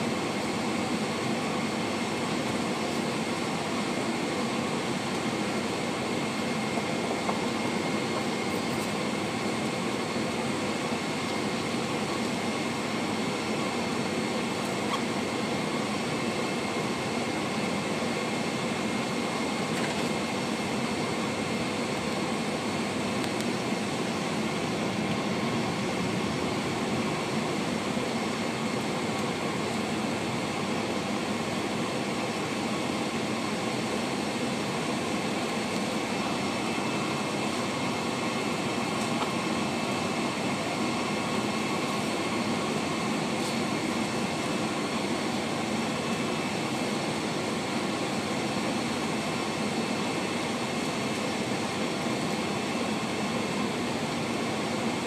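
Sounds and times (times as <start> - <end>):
high steady engine whine: 0.0 - 55.0
jet engine rumble and hiss in cabin: 0.0 - 55.0.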